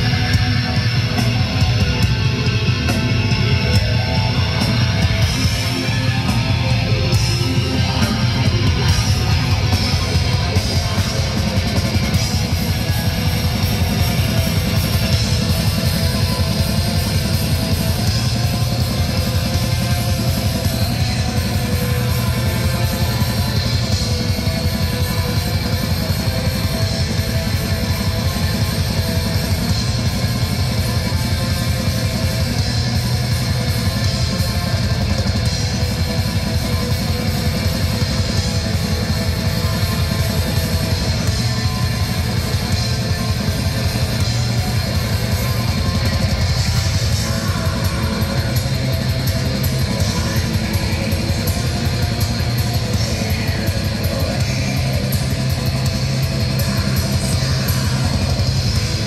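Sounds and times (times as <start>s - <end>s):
distorted electric guitars: 0.0s - 59.0s
rapid drumming: 0.0s - 59.0s.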